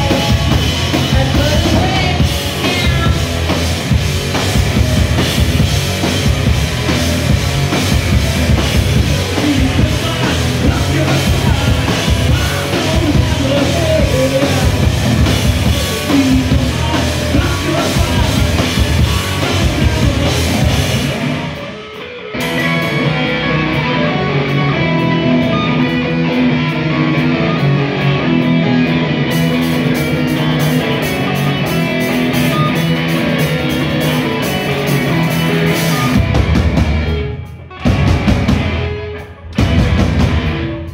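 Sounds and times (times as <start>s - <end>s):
drum kit: 0.0s - 40.9s
electric guitars: 0.0s - 40.9s.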